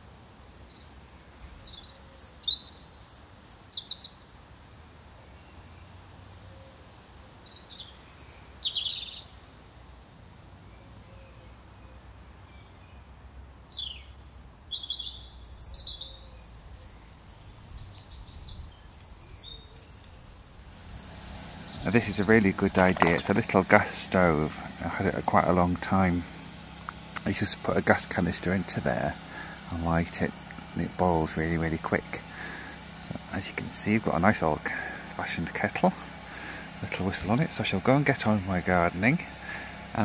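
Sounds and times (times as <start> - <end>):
robin singing: 0.7 - 4.4, 7.2 - 9.4, 10.7 - 40.0.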